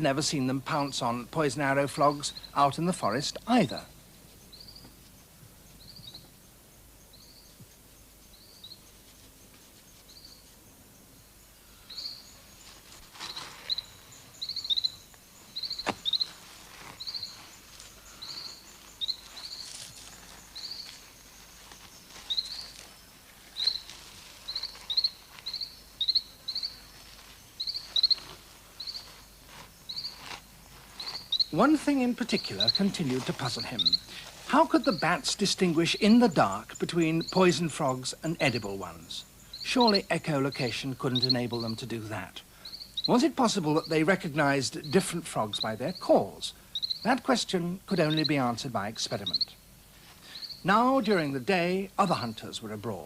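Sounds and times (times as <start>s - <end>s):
faint high insect hum: 0.0s - 53.0s.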